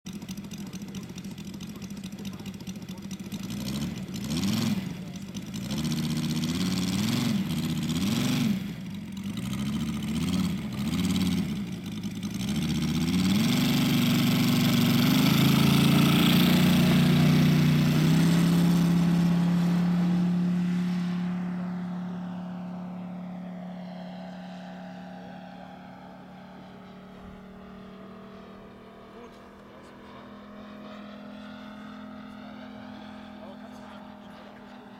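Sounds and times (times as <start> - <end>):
model airplane engine revving: 0.1 - 34.9.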